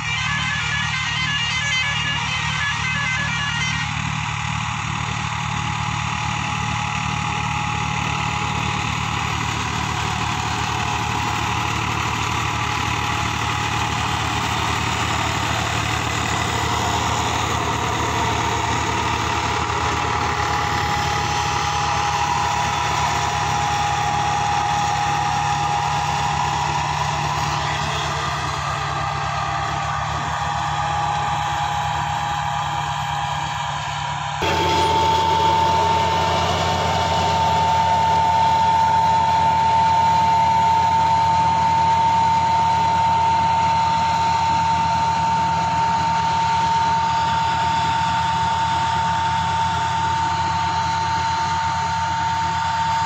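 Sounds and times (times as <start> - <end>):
tractor diesel engine running: 0.0 - 53.0
high whine: 7.4 - 53.0.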